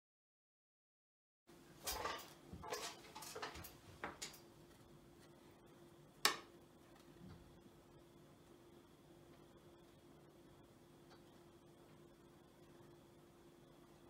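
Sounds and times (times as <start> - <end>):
faint steady hum: 1.5 - 14.0.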